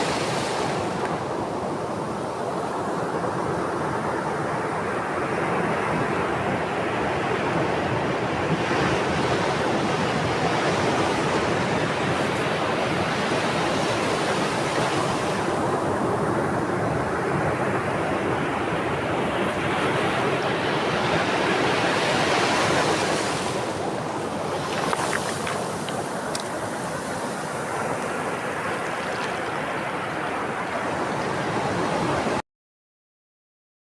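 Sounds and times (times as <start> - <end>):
sea waves washing onto shore: 0.0 - 3.9, 8.8 - 32.4.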